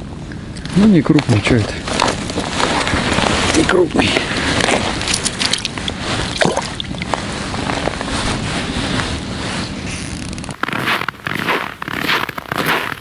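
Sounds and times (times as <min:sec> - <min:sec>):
wind buffeting the microphone: 0:00.0 - 0:10.6.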